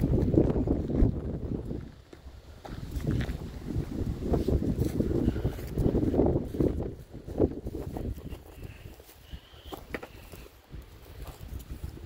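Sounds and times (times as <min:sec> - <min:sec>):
footsteps on dry grass: 0:00.0 - 0:12.0.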